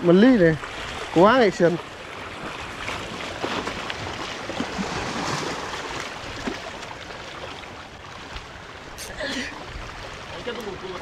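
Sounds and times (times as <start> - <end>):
sea water washing against rocks: 0.4 - 11.0.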